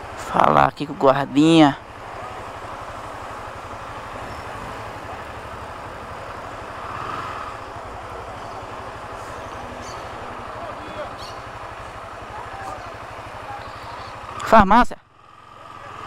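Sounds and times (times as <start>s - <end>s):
motorcycle engine running: 0.0s - 16.0s
street noise: 0.0s - 16.0s.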